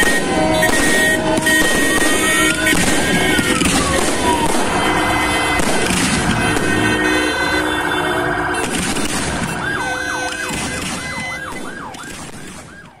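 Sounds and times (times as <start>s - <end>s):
dense din of steady tones: 0.0s - 13.0s
fireworks bangs: 0.0s - 13.0s
siren yelping: 0.0s - 13.0s.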